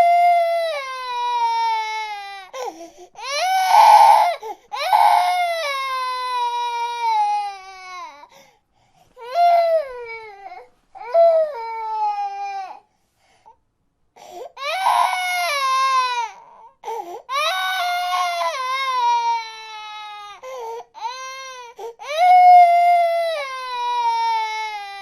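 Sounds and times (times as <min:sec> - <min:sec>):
baby crying: 0:00.0 - 0:08.3, 0:09.2 - 0:12.8, 0:14.6 - 0:25.0.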